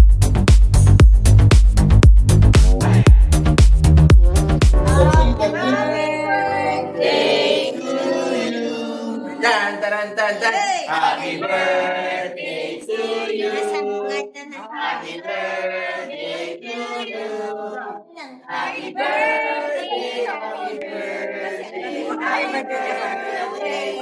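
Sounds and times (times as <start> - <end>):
group of people singing: 4.3 - 24.0.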